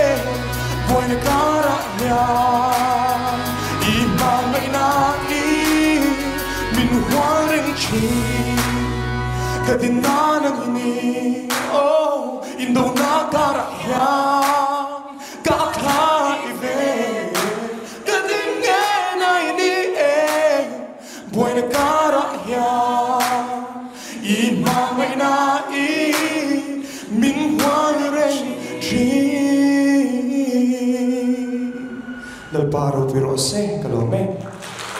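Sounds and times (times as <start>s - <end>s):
man singing into a microphone: 0.0s - 33.3s.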